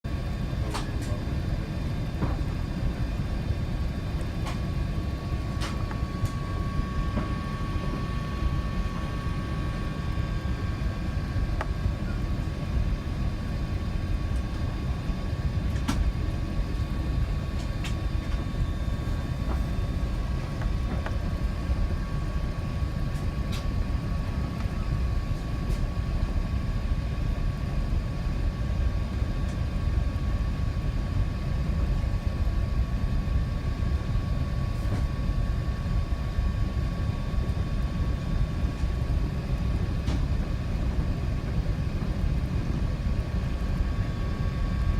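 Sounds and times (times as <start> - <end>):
faint steady hum: 0.1 - 44.9.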